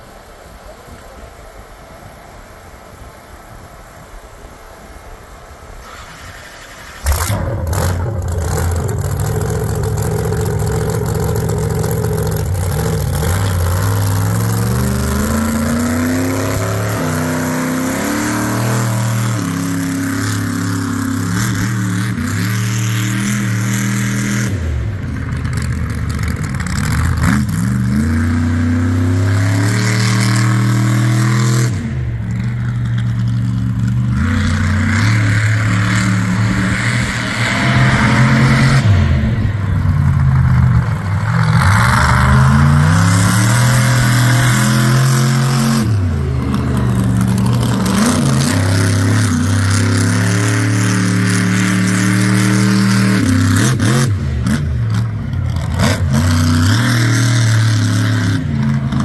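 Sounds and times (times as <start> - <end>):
monster truck engine revving: 5.8 - 59.0.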